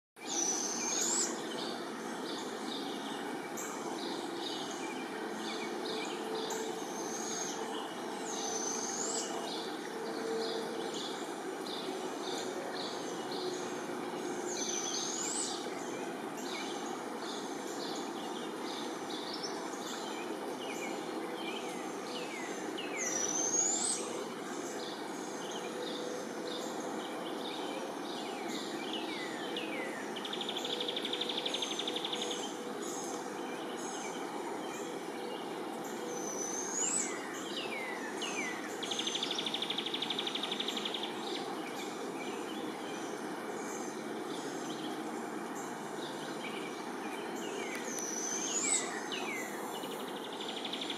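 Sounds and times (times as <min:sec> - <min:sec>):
background noise: 0:00.2 - 0:50.9.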